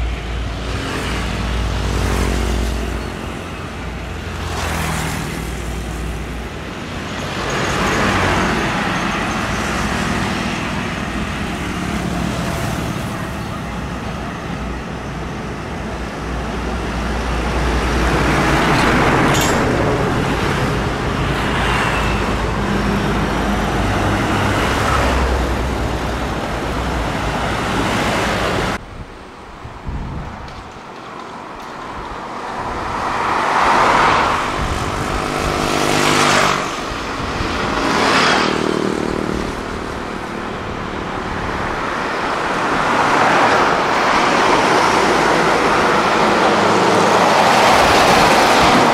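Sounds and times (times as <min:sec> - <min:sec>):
diesel trucks passing: 0:00.0 - 0:48.9
tyre and road noise: 0:00.0 - 0:48.9.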